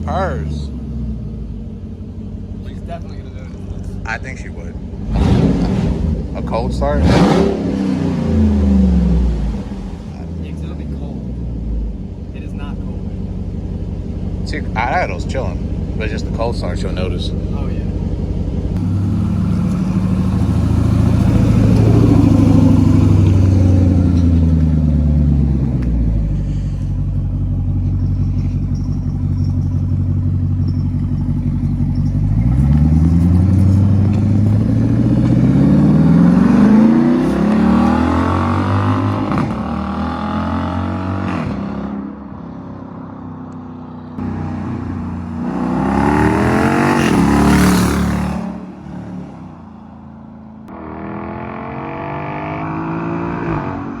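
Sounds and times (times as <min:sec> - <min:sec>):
engine exhaust revving: 0:02.4 - 0:42.2, 0:44.2 - 0:49.6.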